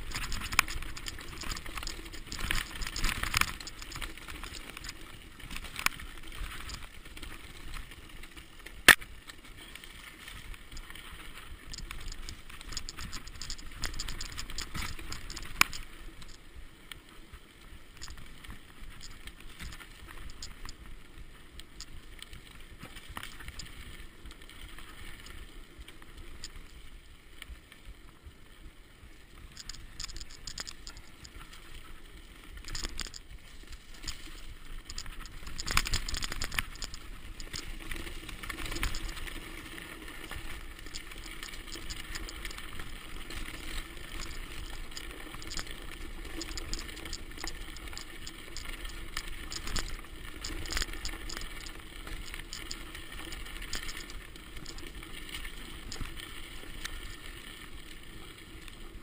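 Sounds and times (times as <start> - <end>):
bike chain and frame rattling: 0.0 - 8.9, 9.5 - 16.4, 17.9 - 26.8, 29.5 - 58.6
bike tyres rolling on dirt: 0.0 - 59.0.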